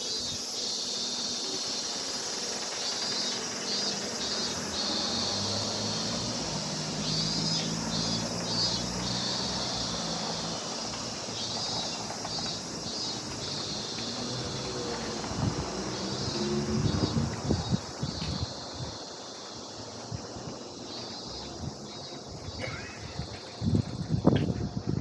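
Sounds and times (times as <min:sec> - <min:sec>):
insects chorus: 0:00.0 - 0:25.0
low traffic hum: 0:00.2 - 0:25.0.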